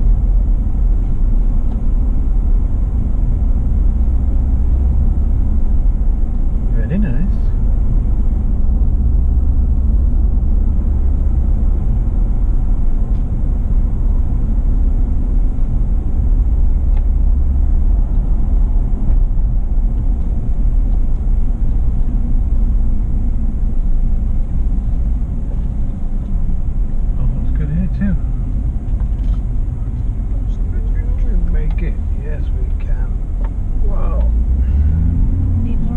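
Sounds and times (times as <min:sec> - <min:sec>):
car engine and road rumble: 0:00.0 - 0:35.9.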